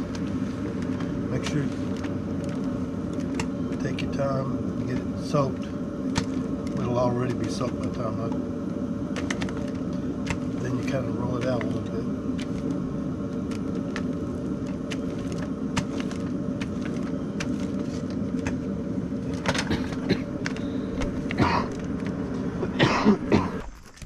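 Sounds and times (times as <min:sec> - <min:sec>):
space heater droning hum: 0:00.0 - 0:24.0.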